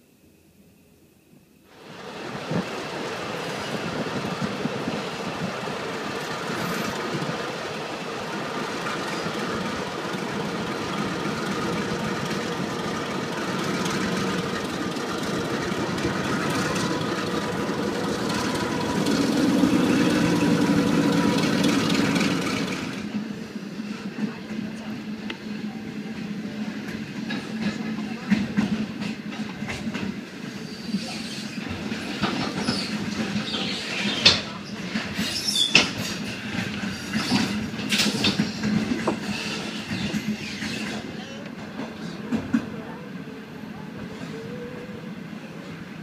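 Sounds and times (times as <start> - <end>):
diesel locomotive engine drone: 0.0 - 46.0
rail noise rumble: 0.0 - 46.0.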